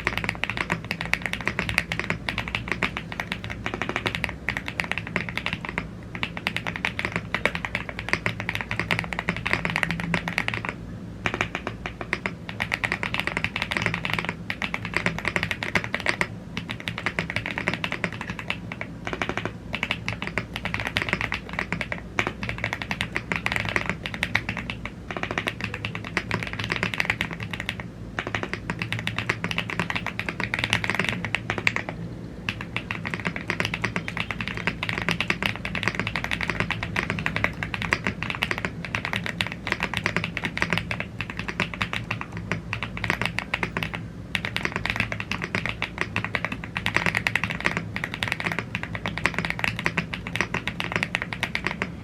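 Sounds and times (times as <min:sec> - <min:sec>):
fast mechanical keyboard typing: 0:00.0 - 0:52.0
steady low hum: 0:00.0 - 0:52.0.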